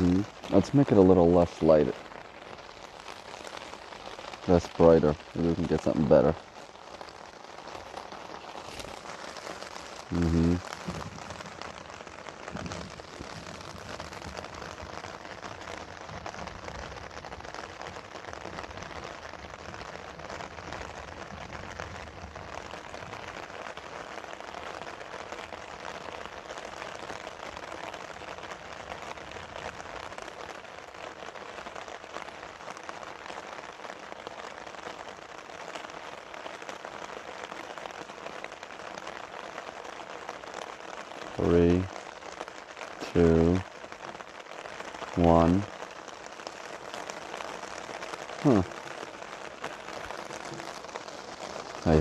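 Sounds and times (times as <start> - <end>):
rain falling: 0.0 - 52.0
raindrops pattering on umbrella: 0.0 - 52.0.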